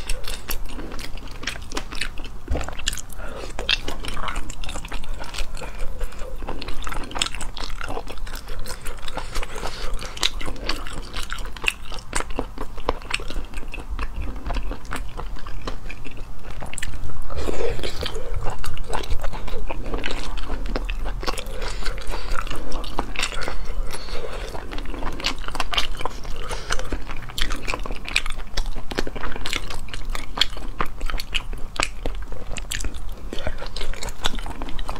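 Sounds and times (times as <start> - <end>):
woman sucking and chewing: 0.0 - 34.9.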